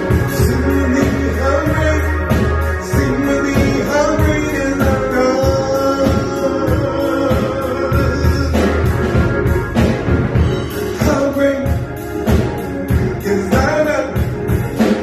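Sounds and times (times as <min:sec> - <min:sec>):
drum beat: 0:00.0 - 0:15.0
worship song with band: 0:00.0 - 0:15.0.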